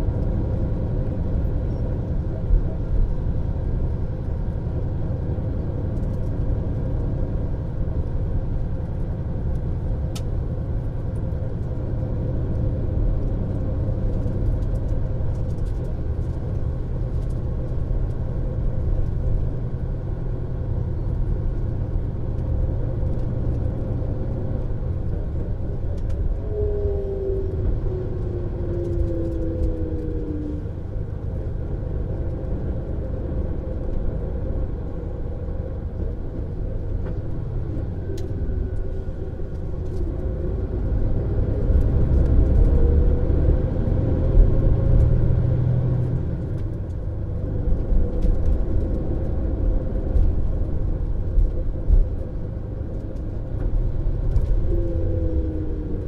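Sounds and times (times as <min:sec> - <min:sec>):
bus engine running: 0:00.0 - 0:56.0
road rumble: 0:00.0 - 0:56.0.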